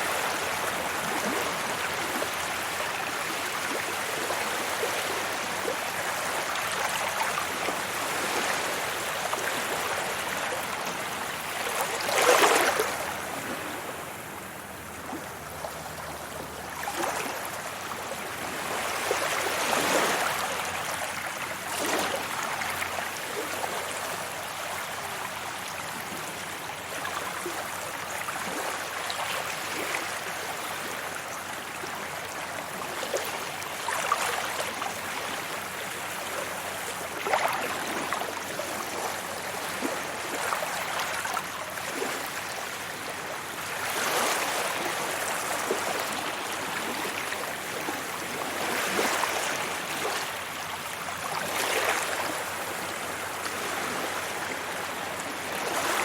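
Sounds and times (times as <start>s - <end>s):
sea waves washing onto beach: 0.0s - 56.0s.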